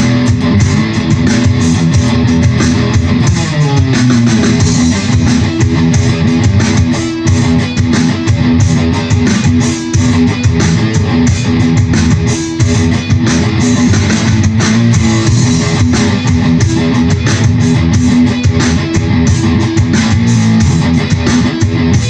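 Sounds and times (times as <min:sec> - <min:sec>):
bass line with steady beat: 0:00.0 - 0:22.0
strummed guitar: 0:00.0 - 0:22.0.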